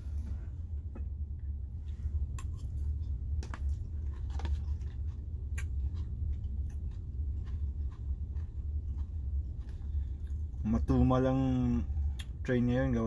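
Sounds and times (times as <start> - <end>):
low hum inside truck cab: 0.0 - 13.0
crunchy chewing: 1.9 - 12.9.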